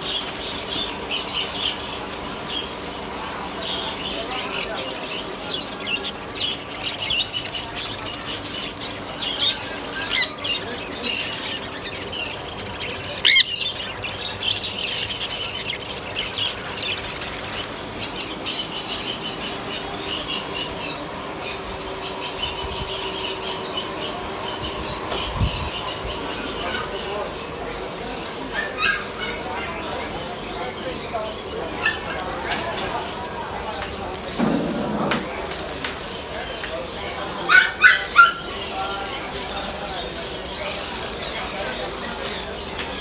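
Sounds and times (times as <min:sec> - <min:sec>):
birds chirping and squawking: 0:00.0 - 0:43.0.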